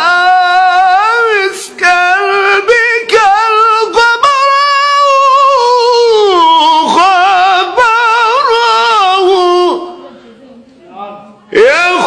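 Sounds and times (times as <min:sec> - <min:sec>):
solo voice singing unaccompanied: 0:00.0 - 0:10.0.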